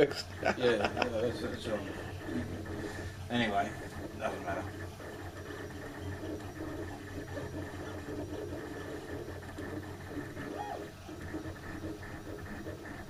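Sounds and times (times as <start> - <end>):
steady printer hum: 0.0 - 13.0
stepper motors whirring: 0.0 - 13.0.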